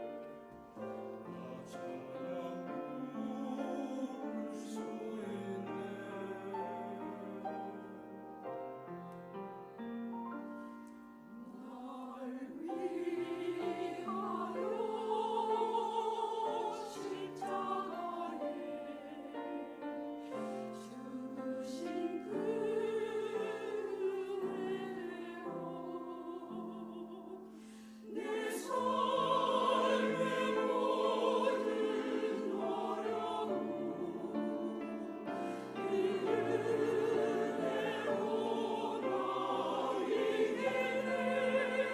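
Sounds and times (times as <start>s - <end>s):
church choir singing: 0.0s - 41.9s
piano accompaniment: 0.0s - 41.9s.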